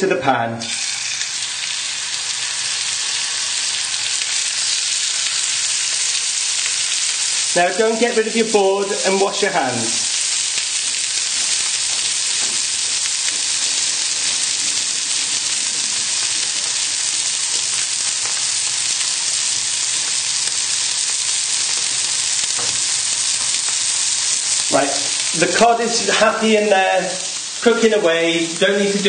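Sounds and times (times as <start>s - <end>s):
fish sizzling in a hot pan: 0.6s - 29.0s.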